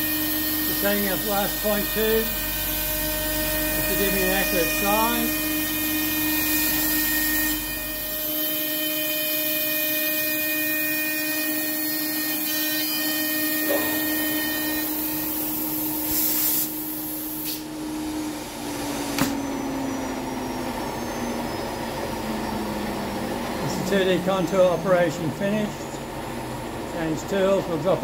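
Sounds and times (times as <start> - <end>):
router spindle whining: 0.0 - 27.9.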